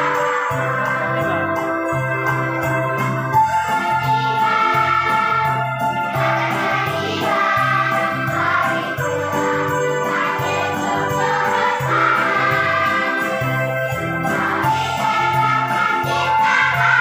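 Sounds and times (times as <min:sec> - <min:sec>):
children's choir singing: 0:00.0 - 0:02.5, 0:03.3 - 0:17.0
electronic keyboard accompaniment: 0:00.0 - 0:17.0
small bells jingling: 0:00.0 - 0:17.0.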